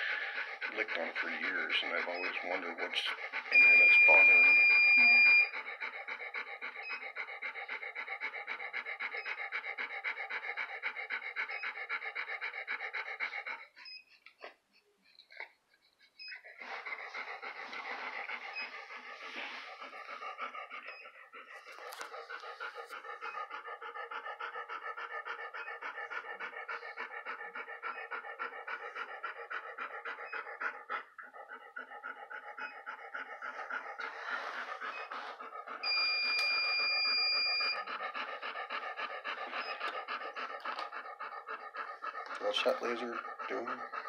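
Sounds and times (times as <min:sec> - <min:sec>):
dog panting: 0:00.0 - 0:44.0.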